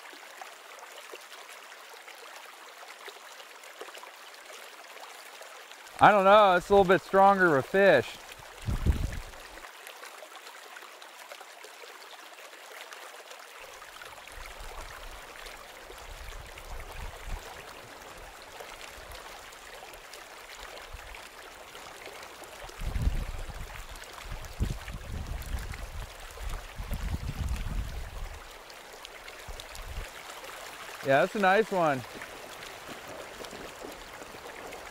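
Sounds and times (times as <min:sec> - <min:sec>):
river water rushing: 0:00.0 - 0:12.1, 0:13.2 - 0:34.9.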